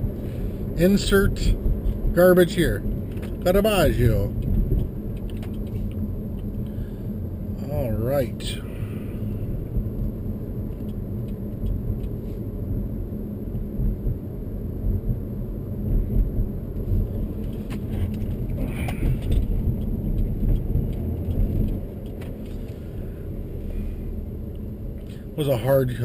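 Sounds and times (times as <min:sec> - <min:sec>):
road and engine noise in car cabin: 0:00.0 - 0:26.0.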